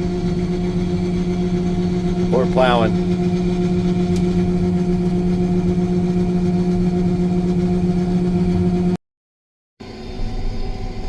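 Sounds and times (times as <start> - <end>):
combine harvester humming: 0.0 - 9.0.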